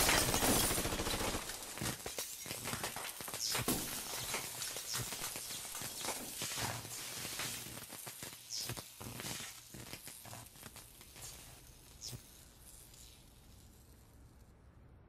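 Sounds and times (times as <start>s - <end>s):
crackling hiss: 0.0s - 14.8s.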